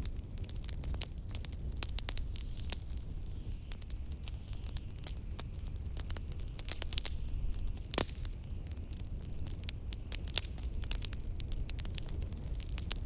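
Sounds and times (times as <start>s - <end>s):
low rumble of wind: 0.0s - 13.0s
wood fire crackling: 0.0s - 13.0s.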